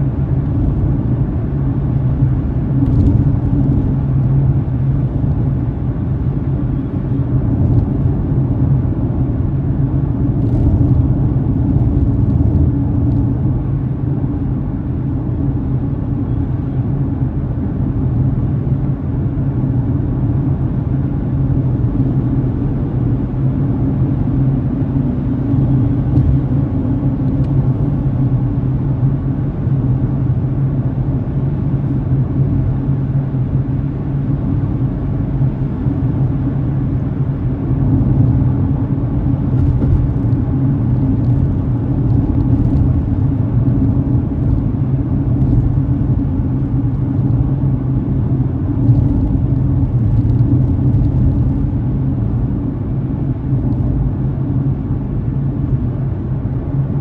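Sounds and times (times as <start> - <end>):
car driving interior rumble: 0.0 - 57.0.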